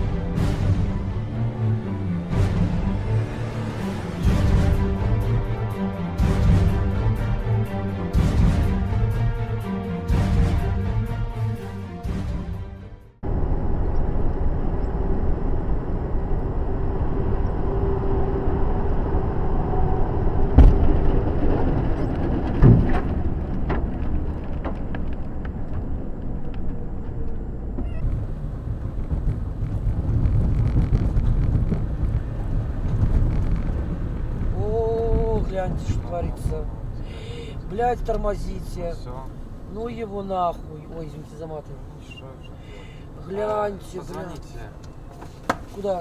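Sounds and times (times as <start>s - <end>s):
engine and tyre rumble: 0.0s - 46.0s.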